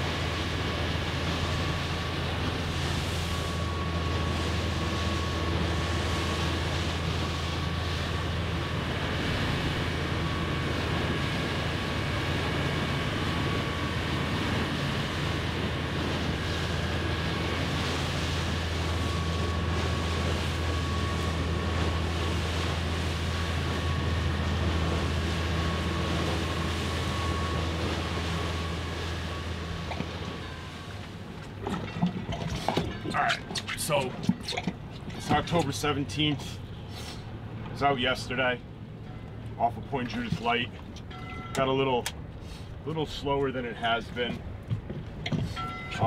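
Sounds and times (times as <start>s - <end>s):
boat engine humming: 0.0s - 46.0s
faint engine whine: 0.0s - 46.0s
rushing water and wind: 0.0s - 46.0s.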